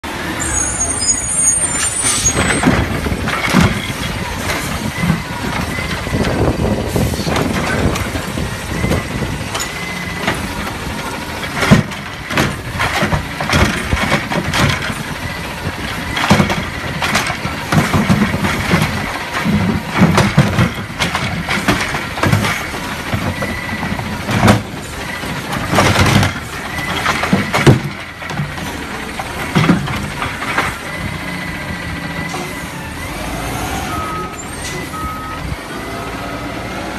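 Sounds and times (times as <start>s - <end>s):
garbage truck engine running: 0.0s - 36.9s.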